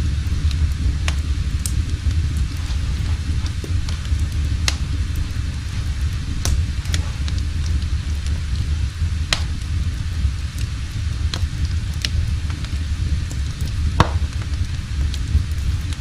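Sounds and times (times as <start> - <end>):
loud crack of fire: 0.0 - 16.0
wood fire crackling: 0.0 - 16.0.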